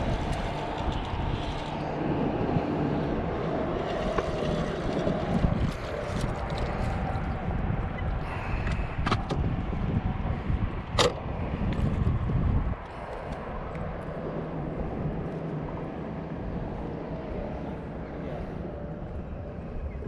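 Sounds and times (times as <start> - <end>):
low hum: 0.0 - 20.0
wind buffeting microphone: 0.0 - 20.0.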